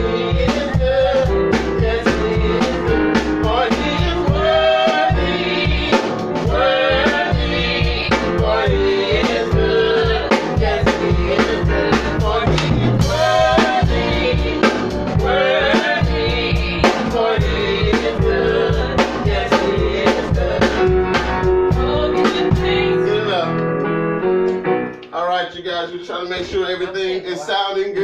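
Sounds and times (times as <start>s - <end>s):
drum kit beat: 0.0s - 24.8s
bass notes: 0.0s - 25.0s
live band playing: 0.0s - 25.1s.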